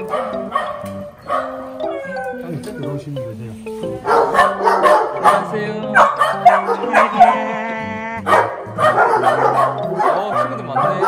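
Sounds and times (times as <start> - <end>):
many dogs barking and yipping: 0.0 - 3.0, 4.0 - 7.5, 8.3 - 11.0
background music: 0.0 - 11.0.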